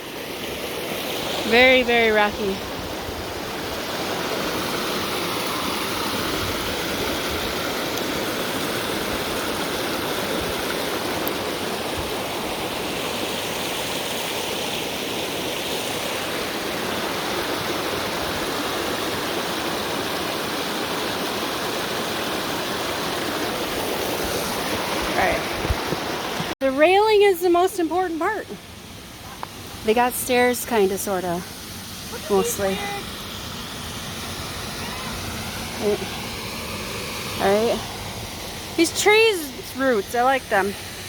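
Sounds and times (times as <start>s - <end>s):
waterfall rushing water: 0.0s - 26.6s, 28.7s - 41.0s.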